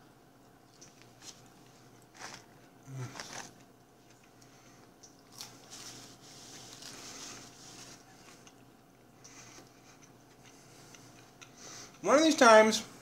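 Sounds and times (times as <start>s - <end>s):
man chewing and biting food: 0.6s - 12.0s.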